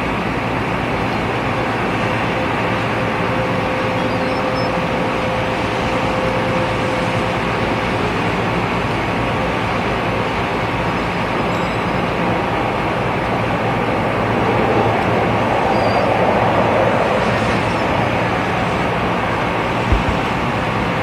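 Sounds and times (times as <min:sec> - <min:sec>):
jet aircraft engine noise: 0:00.0 - 0:21.0.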